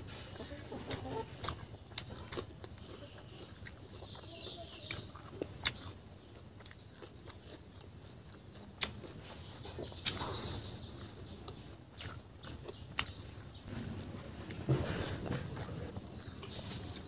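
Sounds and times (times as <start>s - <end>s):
close chewing: 0.0s - 17.0s.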